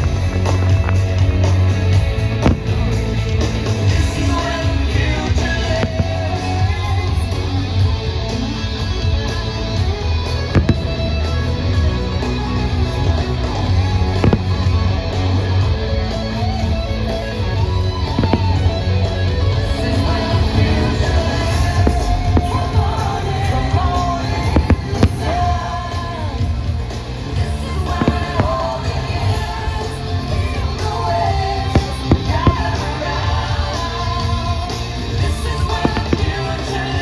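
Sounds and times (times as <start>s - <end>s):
music with heavy bass: 0.0s - 37.0s.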